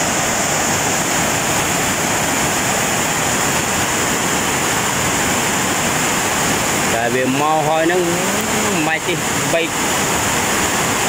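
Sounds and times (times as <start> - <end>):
river rapids rushing over rocks: 0.0 - 11.0.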